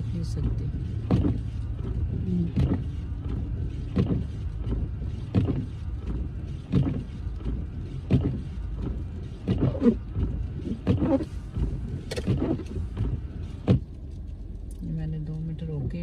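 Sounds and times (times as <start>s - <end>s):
car rumbling in motion: 0.0s - 16.0s
windshield wipers sweeping: 0.0s - 16.0s.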